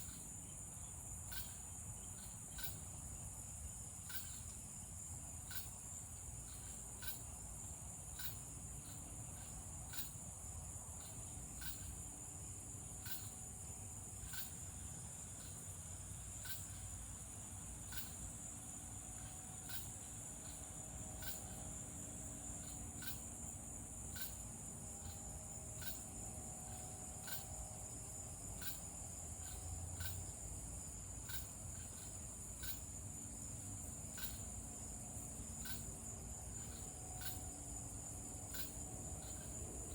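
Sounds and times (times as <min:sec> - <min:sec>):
insect high-pitched trill: 0:00.0 - 0:39.9
sharp cricket chirp: 0:00.0 - 0:39.9.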